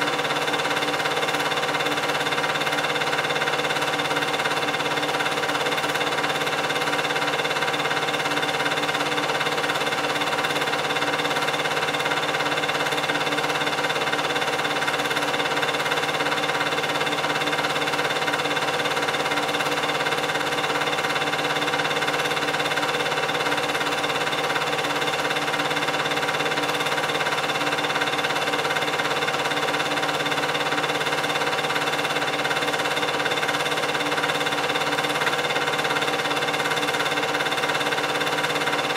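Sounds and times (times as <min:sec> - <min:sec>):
film projector motor whirring: 0:00.0 - 0:38.9.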